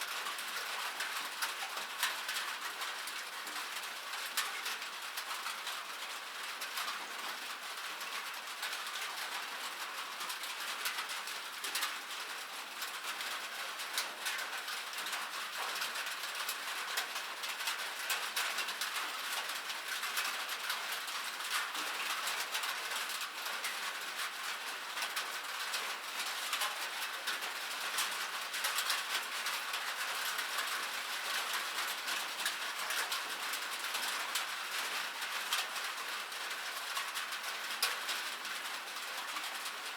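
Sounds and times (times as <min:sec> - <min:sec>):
rain falling on metal: 0:00.0 - 0:39.9.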